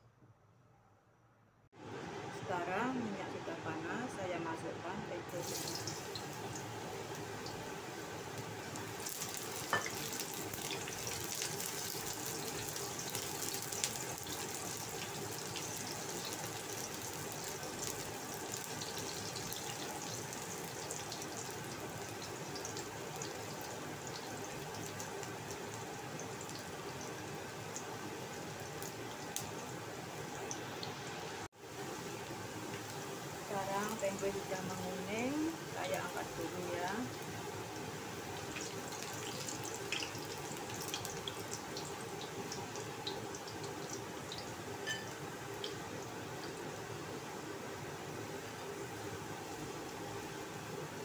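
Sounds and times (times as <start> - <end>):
oil sizzling in a wok: 5.3 - 51.0.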